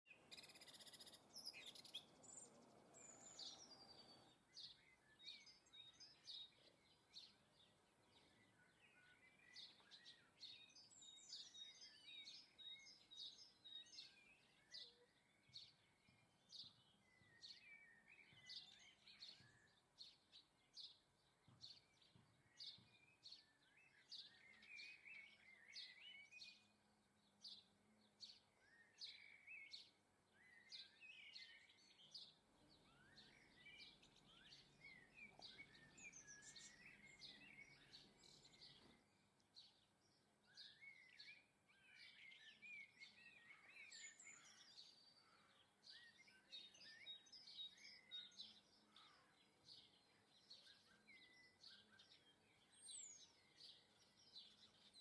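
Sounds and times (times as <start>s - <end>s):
faint birds chirping: 0.0s - 55.0s.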